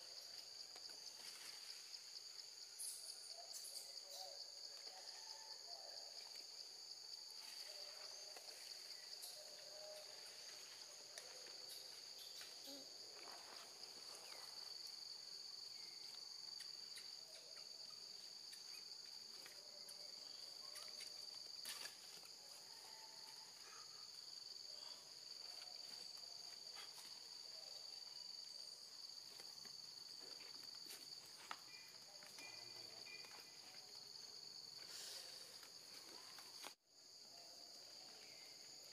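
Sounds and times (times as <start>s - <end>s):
faint high-pitched insect chorus: 0.0s - 38.9s.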